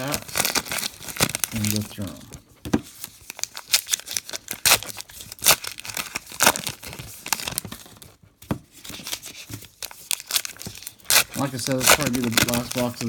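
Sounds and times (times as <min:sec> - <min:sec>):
card wrappers tearing and crinkling: 0:00.0 - 0:13.0.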